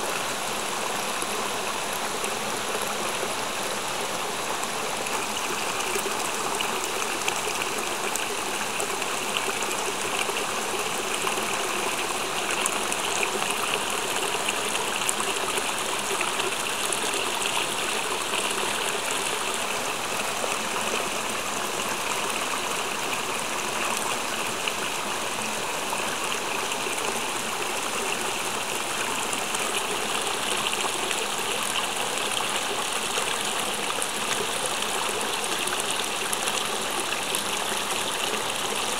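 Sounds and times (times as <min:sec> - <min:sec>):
water pouring into pond: 0:00.0 - 0:38.9.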